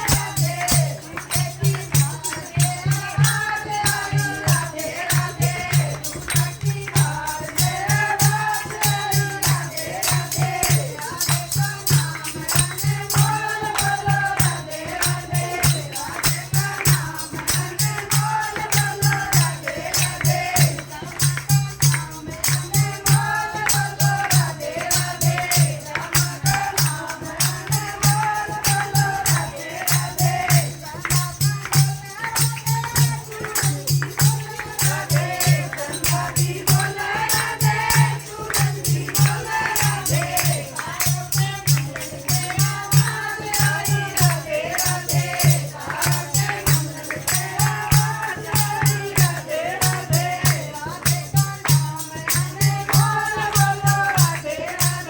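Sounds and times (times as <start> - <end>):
group singing devotional song: 0.0 - 55.0
jingling hand percussion: 0.0 - 55.0
steady drum beat: 0.0 - 55.0.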